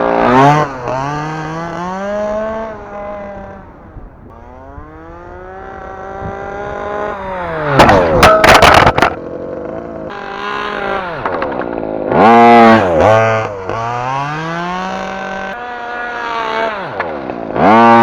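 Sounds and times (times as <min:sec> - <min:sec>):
rc car two-stroke engine: 0:00.0 - 0:18.0.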